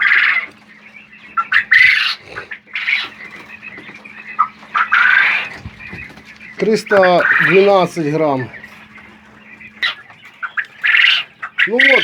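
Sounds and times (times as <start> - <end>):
quail calling: 0.0 - 12.0.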